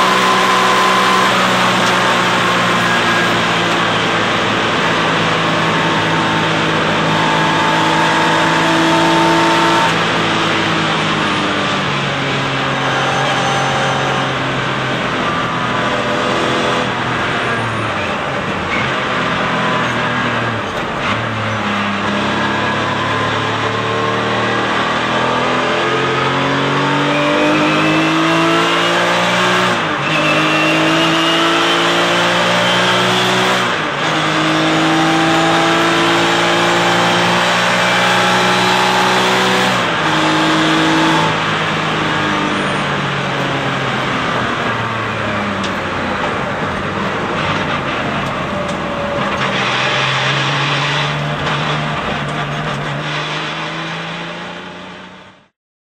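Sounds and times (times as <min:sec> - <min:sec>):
race car engine at full throttle: 0:00.0 - 0:55.6.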